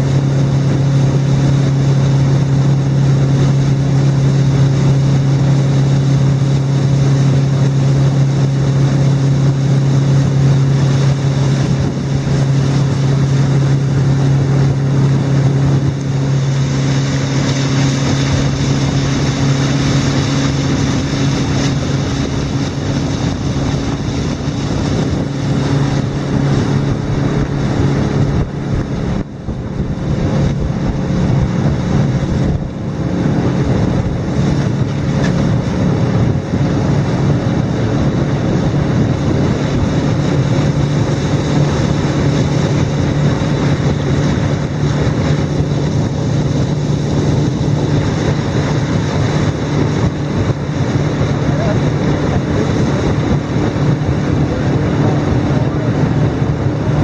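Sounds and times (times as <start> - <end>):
outboard motor humming: 0.0 - 57.0
water rushing past hull: 0.0 - 57.0
wind: 0.0 - 57.0.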